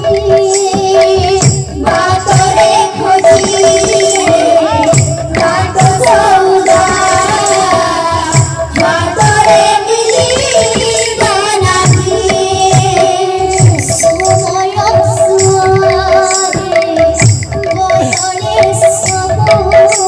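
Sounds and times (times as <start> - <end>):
barrel drum beat: 0.0 - 20.0
small hand cymbals: 0.0 - 20.0
woman singing through microphone: 0.0 - 20.0.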